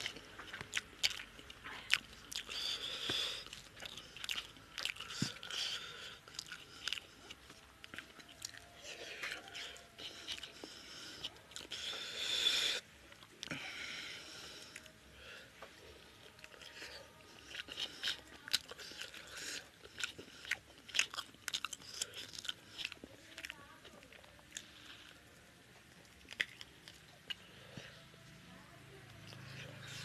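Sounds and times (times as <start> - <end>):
person chewing with mouth smacks: 0.0 - 13.7, 15.6 - 28.0.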